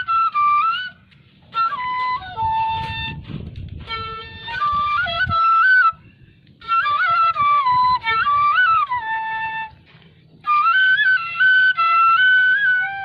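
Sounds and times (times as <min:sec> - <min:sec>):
flute playing slow melody: 0:00.0 - 0:13.0.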